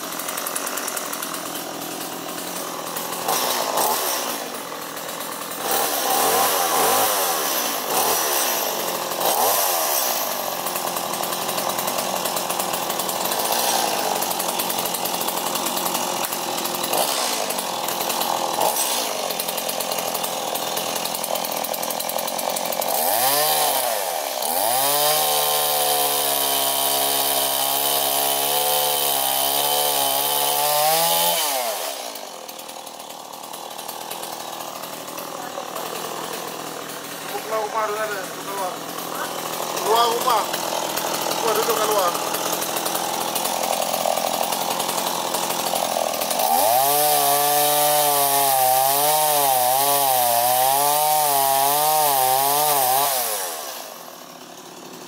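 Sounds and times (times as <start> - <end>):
chainsaw cutting tree trunk: 0.0 - 55.0.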